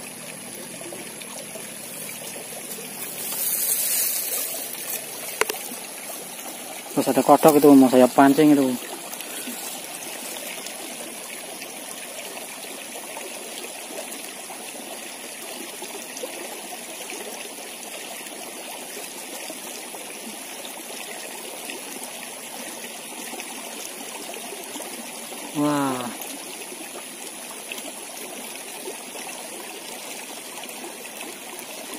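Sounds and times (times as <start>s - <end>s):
stream trickling: 0.0s - 31.9s.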